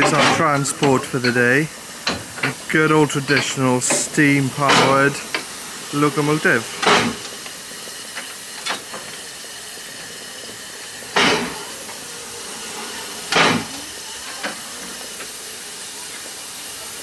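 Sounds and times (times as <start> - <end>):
steam bursts: 0.0 - 17.0
steam locomotive hissing steam: 0.0 - 17.0.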